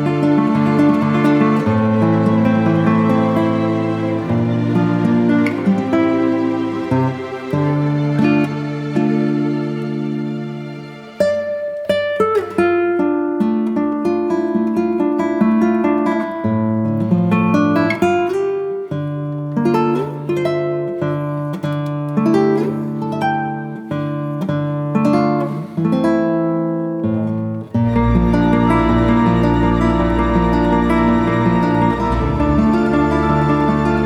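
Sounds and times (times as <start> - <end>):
acoustic guitar melody: 0.0 - 34.0.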